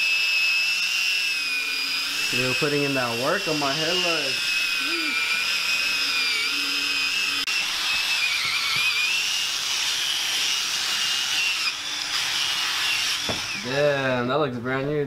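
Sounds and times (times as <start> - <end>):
power drill whining: 0.0 - 14.1.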